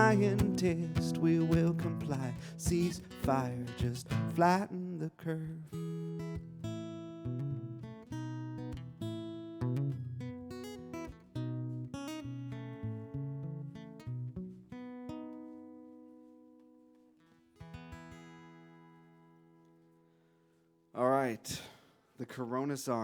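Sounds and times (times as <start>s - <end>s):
acoustic guitar playing: 0.0s - 20.6s.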